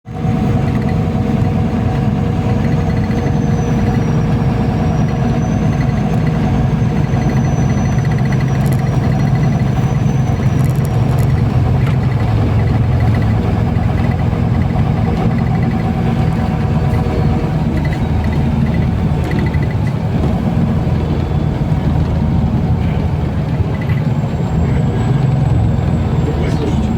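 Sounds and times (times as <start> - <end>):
bus engine drone: 0.0 - 26.9.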